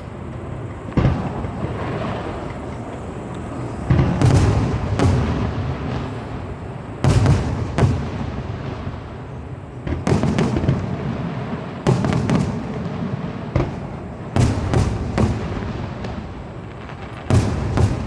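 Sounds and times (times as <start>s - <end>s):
fireworks booming: 0.0s - 18.0s.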